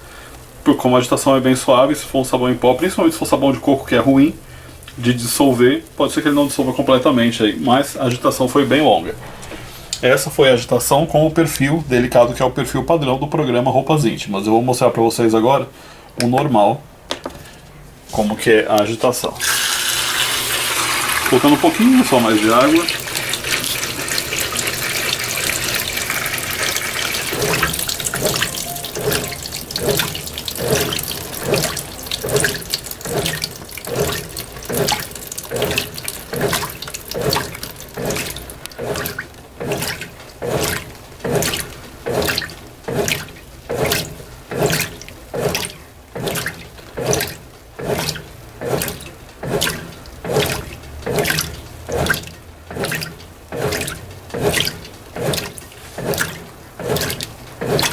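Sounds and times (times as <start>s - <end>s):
water pouring into washing machine: 0.0s - 12.8s, 19.2s - 57.9s
washing machine water swishing: 0.0s - 57.9s.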